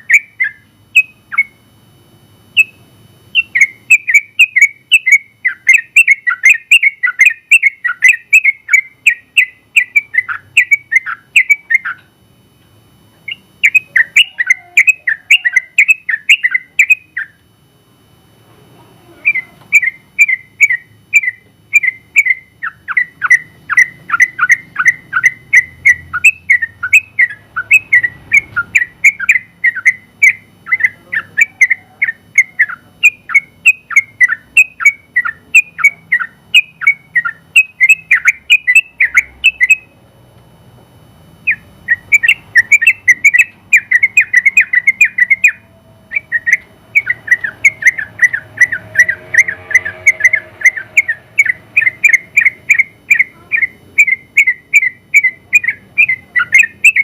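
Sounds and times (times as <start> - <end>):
bird chirping song: 0.0 - 1.6, 2.5 - 12.1, 13.1 - 17.4, 19.2 - 40.0, 41.4 - 57.0.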